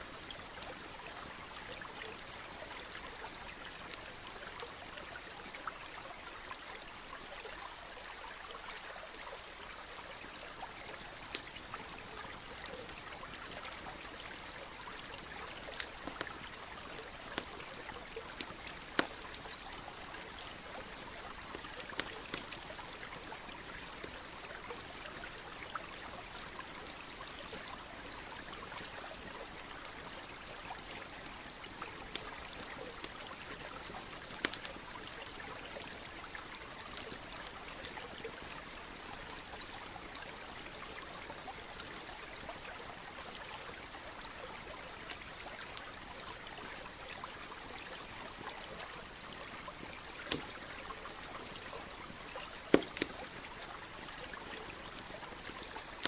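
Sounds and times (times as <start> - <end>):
campfire crackling and popping: 0.0 - 7.8, 9.0 - 56.0
stream flowing: 0.0 - 56.0.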